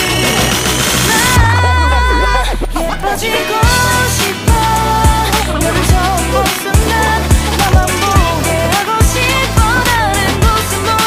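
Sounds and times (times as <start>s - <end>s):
pop music with bass and synth: 0.0s - 11.0s.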